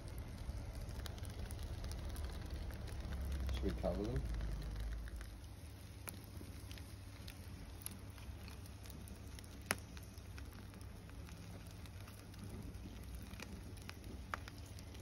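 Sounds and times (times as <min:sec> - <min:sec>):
coals crackling and popping: 0:00.0 - 0:15.0.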